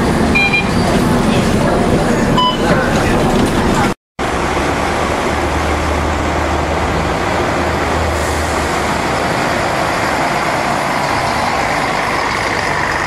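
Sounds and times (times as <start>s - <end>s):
bus diesel engine driving past: 0.0s - 13.0s
road noise: 0.0s - 13.0s.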